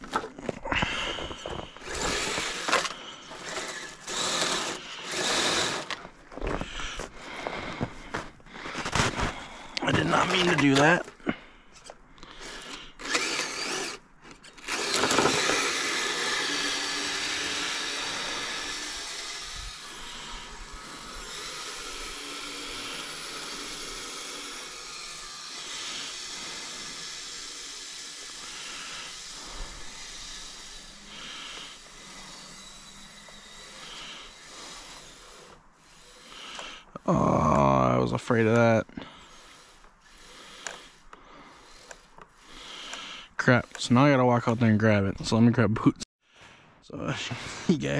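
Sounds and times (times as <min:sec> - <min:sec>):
toy electric motor whining: 0:00.0 - 0:07.8, 0:09.9 - 0:11.2, 0:12.2 - 0:44.8.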